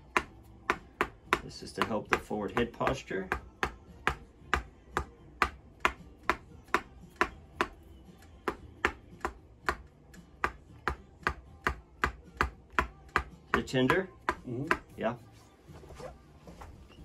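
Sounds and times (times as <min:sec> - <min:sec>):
rubber mallet tapping a chisel: 0:00.0 - 0:15.0.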